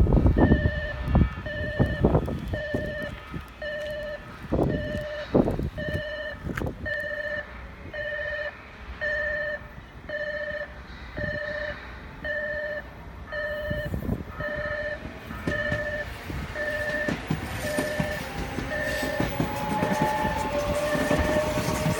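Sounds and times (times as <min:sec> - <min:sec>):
electronic warning beeps: 0:00.4 - 0:21.9.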